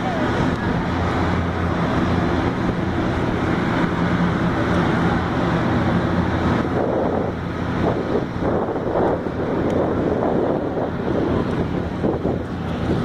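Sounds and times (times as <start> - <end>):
aircraft engines running: 0.0 - 13.0
wind buffeting microphone: 0.0 - 13.0.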